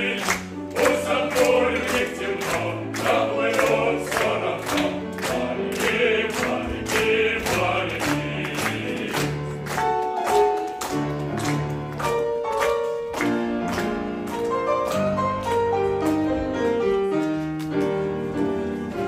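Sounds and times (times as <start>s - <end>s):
piano playing: 0.0s - 19.0s.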